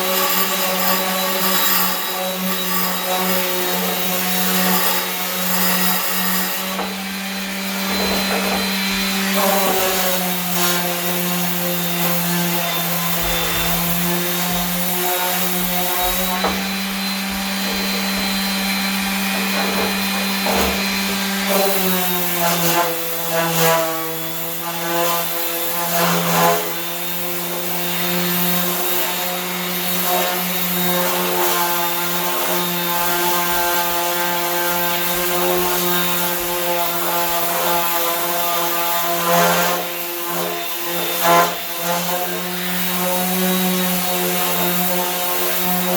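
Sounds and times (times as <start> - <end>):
electric sander on metal: 0.0 - 45.9.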